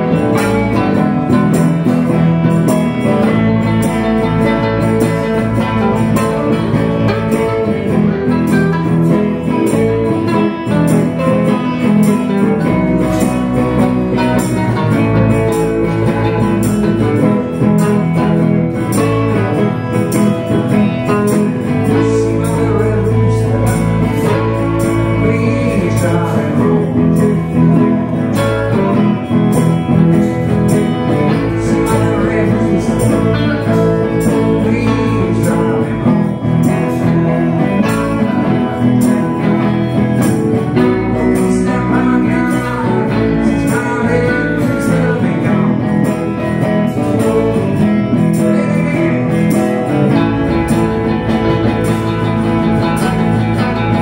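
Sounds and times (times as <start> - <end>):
blues band playing: 0.0 - 54.0
man singing: 0.0 - 54.0.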